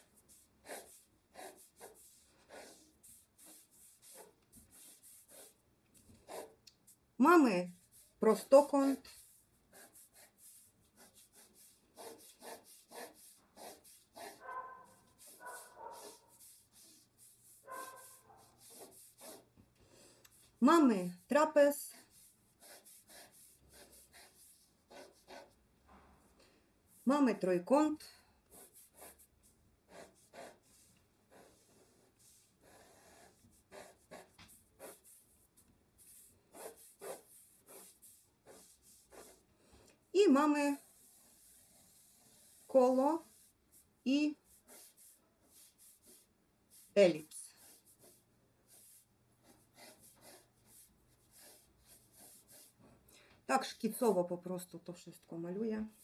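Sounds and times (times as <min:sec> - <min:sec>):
pencil scratching on paper: 0:00.0 - 0:07.0, 0:07.6 - 0:19.6, 0:20.3 - 0:25.6, 0:26.9 - 0:39.6, 0:40.2 - 0:53.0.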